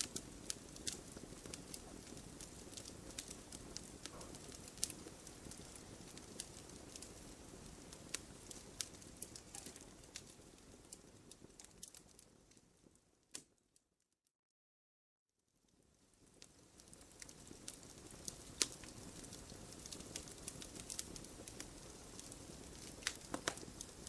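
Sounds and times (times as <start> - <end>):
low rumble of burning: 0.0 - 13.4, 15.5 - 24.0
wood fire crackling: 0.0 - 13.6, 15.5 - 24.0.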